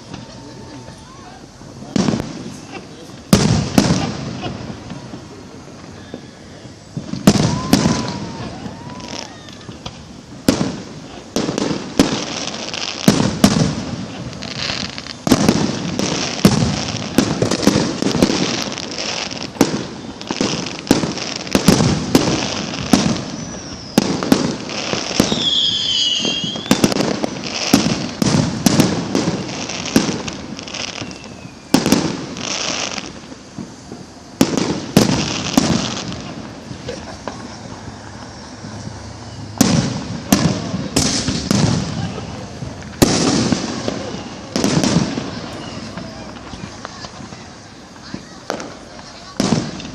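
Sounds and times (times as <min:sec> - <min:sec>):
high whistles gliding in pitch: 0:00.0 - 0:03.3, 0:04.5 - 0:11.3, 0:14.4 - 0:28.2, 0:29.5 - 0:42.8, 0:43.7 - 0:49.0
fireworks bangs: 0:00.0 - 0:49.9
fireworks crackling: 0:00.0 - 0:49.9.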